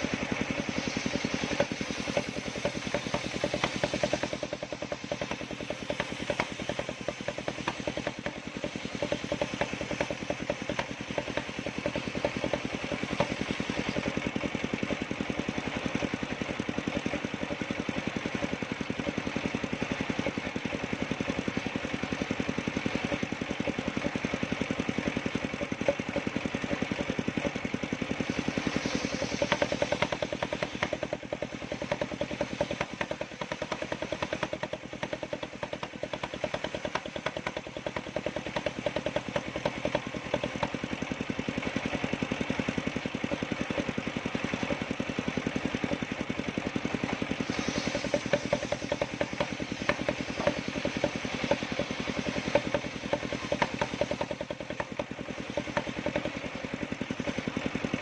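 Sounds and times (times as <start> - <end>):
mechanical clatter: 0.0 - 58.0
sawmill engine running: 0.0 - 58.0.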